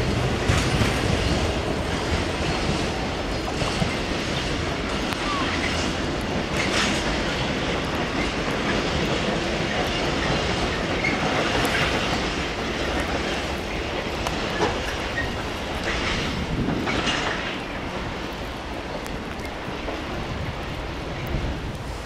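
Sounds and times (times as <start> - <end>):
freight train rolling past: 0.0 - 22.0
wheels clicking on rails: 0.0 - 22.0.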